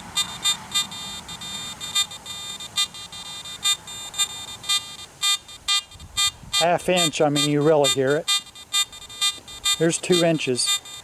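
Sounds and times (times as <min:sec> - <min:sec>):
metal detector beeps: 0:00.0 - 0:11.0
metal detector threshold tone: 0:00.0 - 0:11.0.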